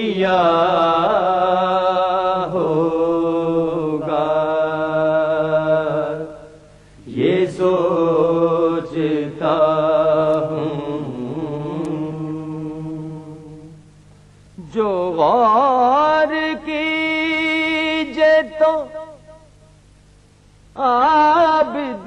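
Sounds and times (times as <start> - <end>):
men singing long held notes: 0.0 - 13.8, 14.6 - 19.5, 20.8 - 22.0.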